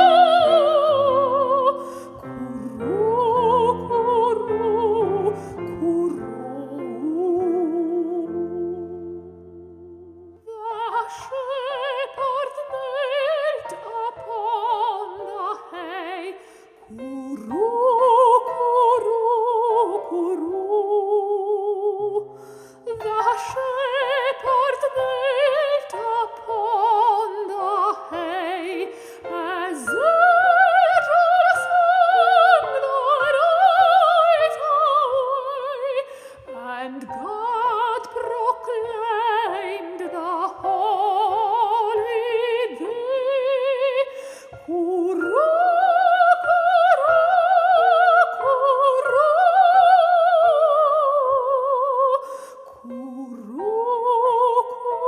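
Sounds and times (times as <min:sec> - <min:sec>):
piano accompaniment: 0:00.0 - 0:55.0
soprano singing a carol: 0:00.0 - 0:55.0.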